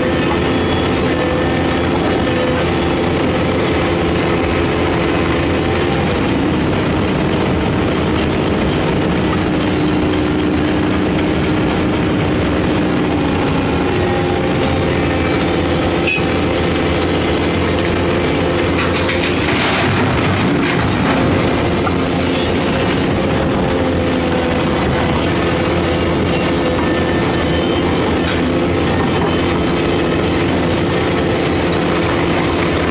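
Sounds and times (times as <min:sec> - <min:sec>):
excavator diesel engine: 0:00.0 - 0:32.9.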